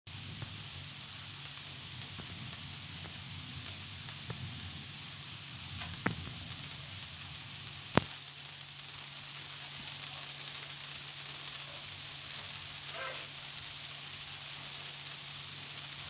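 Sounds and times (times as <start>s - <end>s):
outdoor night ambience hiss: 0.1s - 16.0s.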